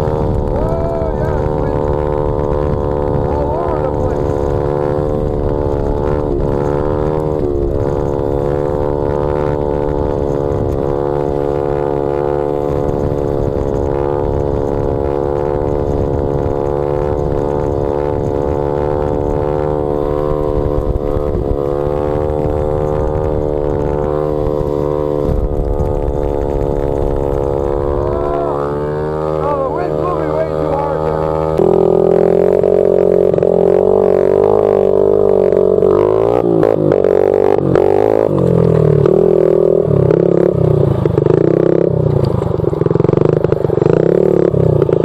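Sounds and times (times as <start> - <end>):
motorbike engine running: 0.0 - 45.0
wind rushing over microphone: 0.0 - 45.0.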